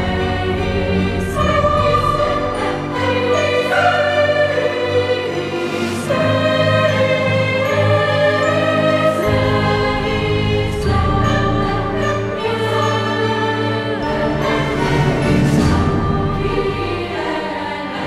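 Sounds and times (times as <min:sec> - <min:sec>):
orchestral music with choir: 0:00.0 - 0:18.0.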